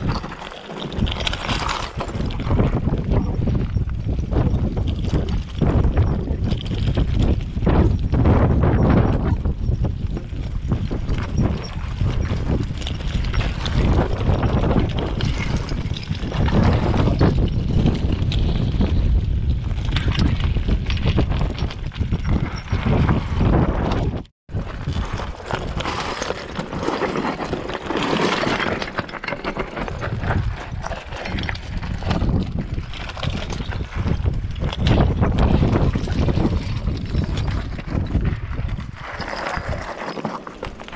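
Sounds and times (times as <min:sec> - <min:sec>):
bike tyres crunching over stones: 0:00.0 - 0:08.9, 0:09.6 - 0:40.9
bike rattling over bumps: 0:00.0 - 0:40.9.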